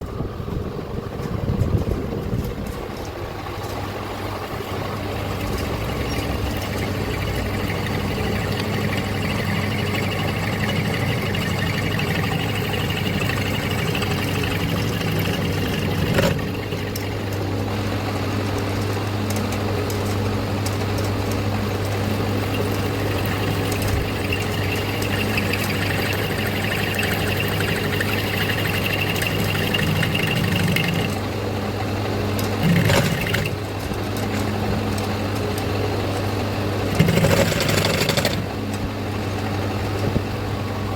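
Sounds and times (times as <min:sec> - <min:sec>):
machine humming: 0:00.0 - 0:40.9.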